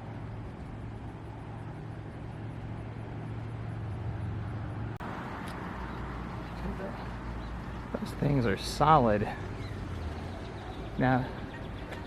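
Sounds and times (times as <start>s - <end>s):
constant low hum: 0.0s - 12.0s
road traffic noise: 0.0s - 12.0s.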